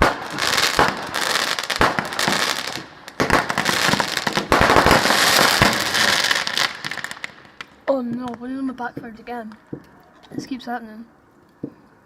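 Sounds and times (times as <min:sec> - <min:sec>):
fireworks crackling and banging: 0:00.0 - 0:10.8.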